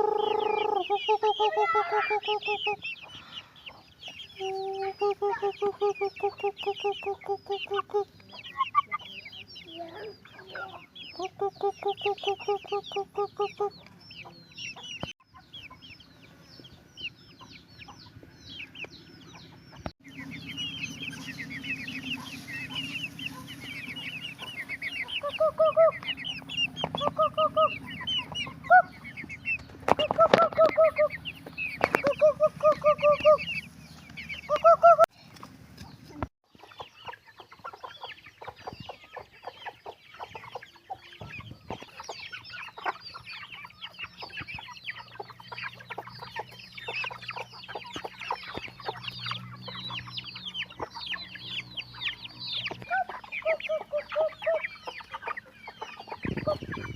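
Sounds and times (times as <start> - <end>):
chicks peeping: 0.0 - 56.9
hen clucking: 0.0 - 56.9.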